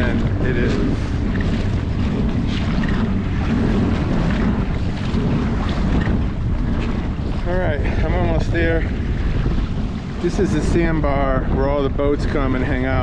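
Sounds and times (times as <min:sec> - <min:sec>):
water lapping against kayak hull: 0:00.0 - 0:13.0
wind buffeting microphone: 0:00.0 - 0:13.0.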